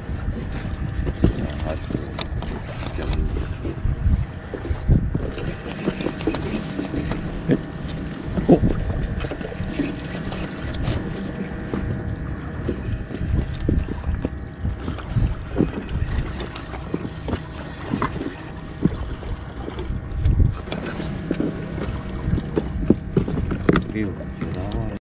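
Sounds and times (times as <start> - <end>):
noisy boat rumble: 0.0 - 25.0.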